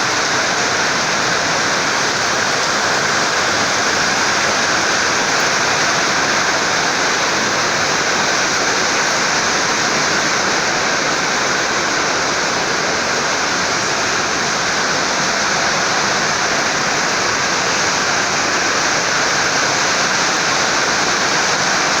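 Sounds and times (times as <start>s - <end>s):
rainwater pouring: 0.0s - 22.0s.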